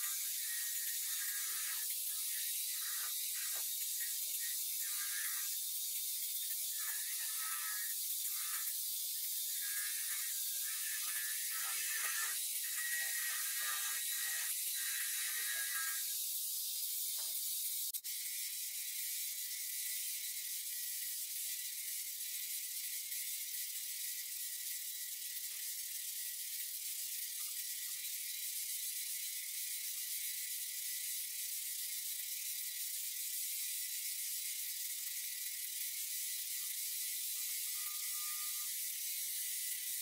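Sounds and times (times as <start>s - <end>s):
angle grinder sanding belt running: 0.0s - 40.0s.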